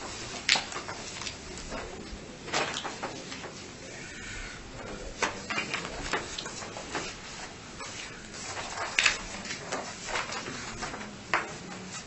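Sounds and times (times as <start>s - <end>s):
papers rustling: 0.0s - 12.0s.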